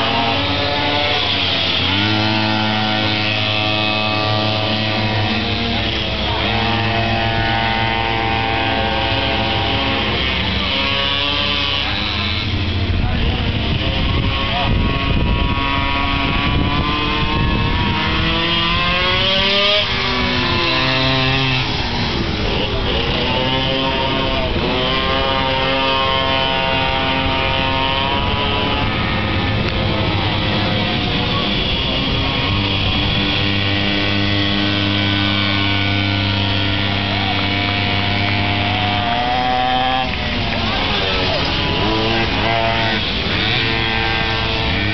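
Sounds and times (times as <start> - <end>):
small two-stroke engines racing past: 0.0 - 44.9.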